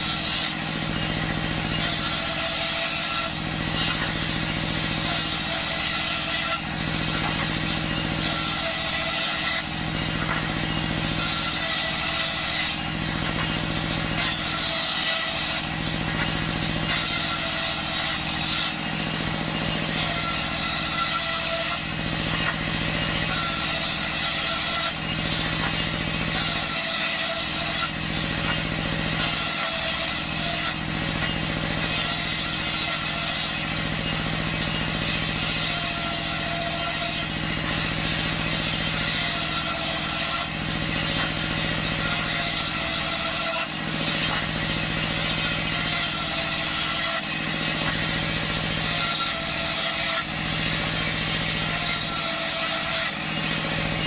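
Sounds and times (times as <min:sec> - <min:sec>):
circular saw cutting wood: 0:00.0 - 0:54.0
engine running steadily: 0:00.0 - 0:54.0.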